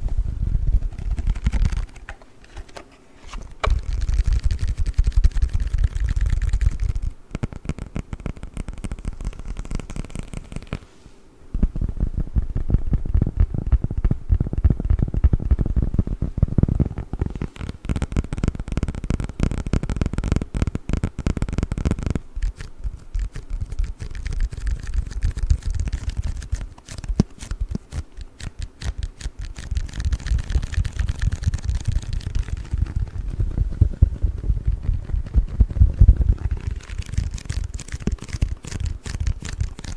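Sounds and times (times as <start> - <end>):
tapping and scratching on plastic: 0.7 - 10.8, 16.6 - 39.9.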